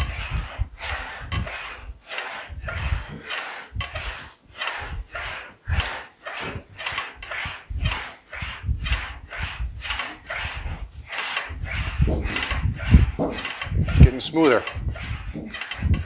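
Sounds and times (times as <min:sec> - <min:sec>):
low thumps: 0:00.0 - 0:01.9, 0:02.5 - 0:16.0
english wheel rolling sheet metal: 0:00.0 - 0:16.0.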